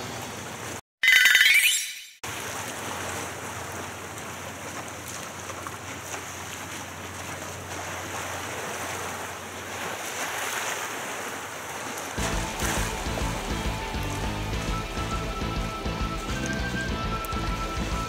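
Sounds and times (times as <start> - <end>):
waves splashing against a seawall: 2.2 - 18.0.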